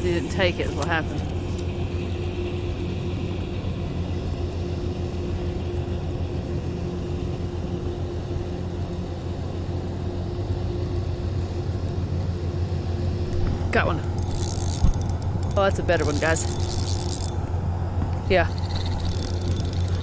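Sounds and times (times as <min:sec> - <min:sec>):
constant hum: 0:00.0 - 0:20.0
low engine-like drone: 0:00.0 - 0:20.0.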